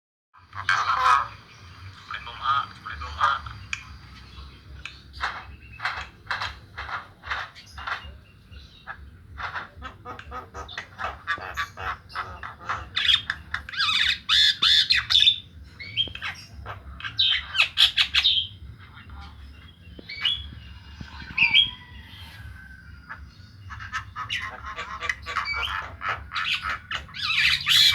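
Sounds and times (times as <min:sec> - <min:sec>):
bird chattering and squawking: 0:00.4 - 0:27.9.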